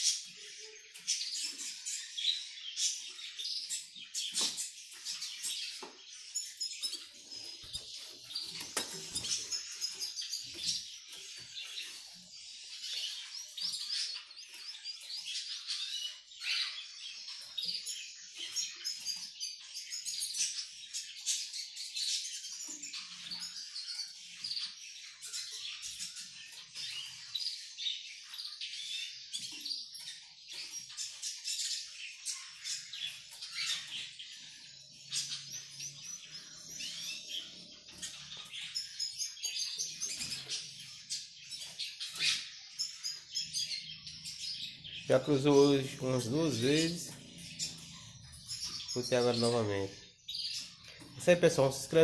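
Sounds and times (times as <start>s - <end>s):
bird twittering song: 0.0s - 52.0s.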